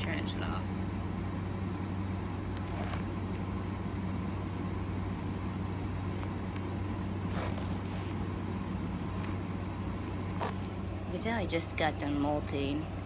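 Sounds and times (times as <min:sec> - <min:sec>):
cricket chirping: 0:00.0 - 0:13.0
low electrical hum: 0:00.0 - 0:13.0.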